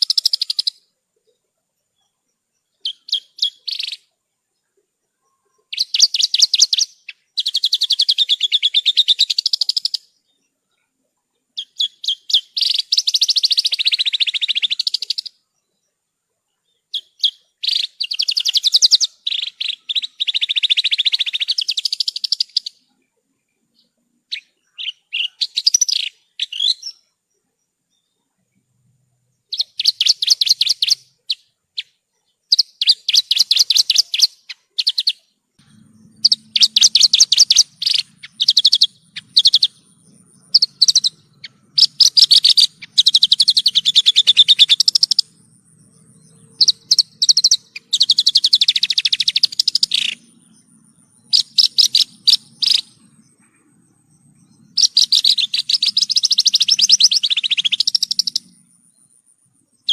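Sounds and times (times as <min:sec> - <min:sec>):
bird singing fast trills: 0:00.0 - 0:10.8, 0:11.5 - 0:23.0, 0:23.6 - 0:28.3, 0:29.2 - 0:59.9.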